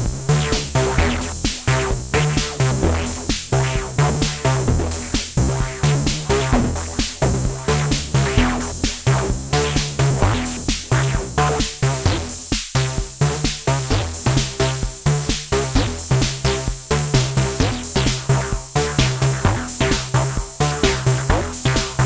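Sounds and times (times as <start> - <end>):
synthesizer bass pattern: 0.0 - 22.0.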